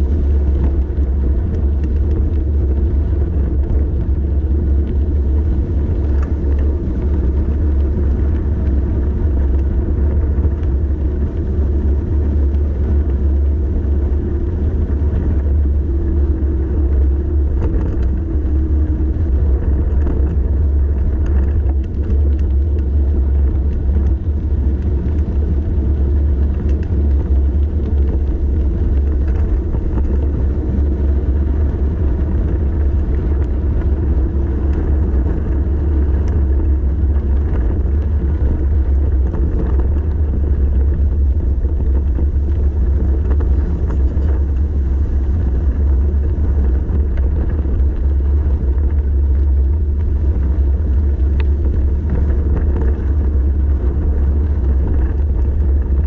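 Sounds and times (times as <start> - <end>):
bicycle road noise: 0.0 - 56.0
wind buffeting microphone: 0.0 - 56.0.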